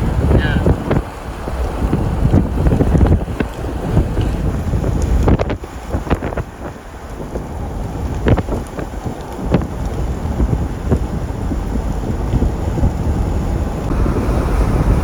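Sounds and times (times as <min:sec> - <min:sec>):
hailstones striking vehicle: 0:00.0 - 0:15.0
strong wind buffeting: 0:00.0 - 0:15.0.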